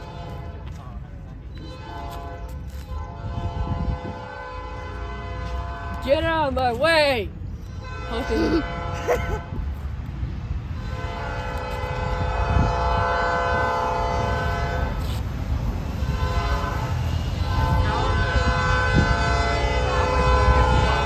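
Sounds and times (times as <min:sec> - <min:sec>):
locomotive air horn: 0:00.0 - 0:00.8, 0:01.5 - 0:06.4, 0:07.6 - 0:09.6, 0:10.7 - 0:15.2, 0:15.9 - 0:21.0
train rumble: 0:00.0 - 0:21.0.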